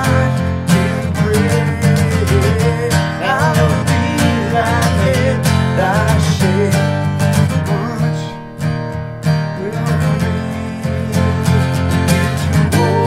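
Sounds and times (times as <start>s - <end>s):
man singing: 0.0s - 8.7s, 9.5s - 13.0s
acoustic guitars strumming: 0.0s - 13.0s.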